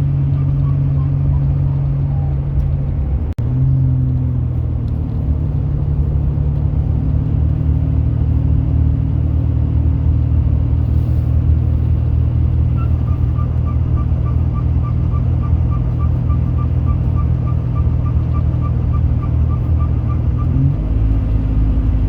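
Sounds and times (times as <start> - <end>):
car engine running steadily: 0.0 - 22.0.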